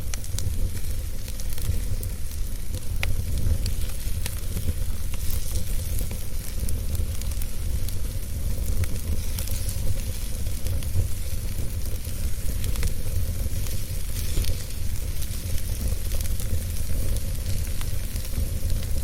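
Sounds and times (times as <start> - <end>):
burning wood crackling and popping: 0.0 - 19.0
fire flames rumbling and hissing: 0.0 - 19.0.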